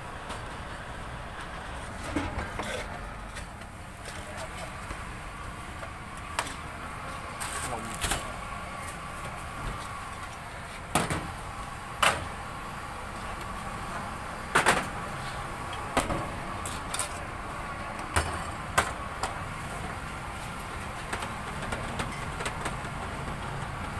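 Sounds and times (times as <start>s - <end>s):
steady background noise: 0.0s - 23.9s.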